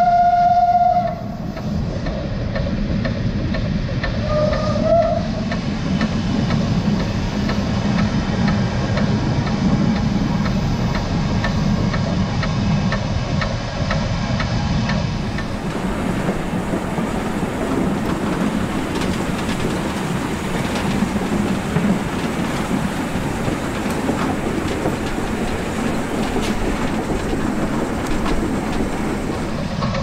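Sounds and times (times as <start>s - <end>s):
wheel-on-rail rumble: 0.0s - 30.0s.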